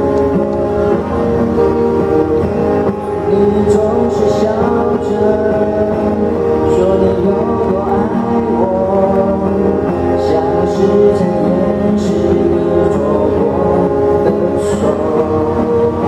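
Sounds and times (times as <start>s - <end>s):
pop song instrumental: 0.0s - 16.0s.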